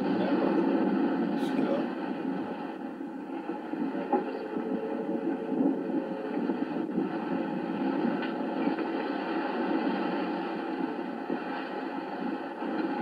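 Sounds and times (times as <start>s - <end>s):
faint steady hum: 0.0s - 13.0s
muffled wind and sea: 0.0s - 13.0s.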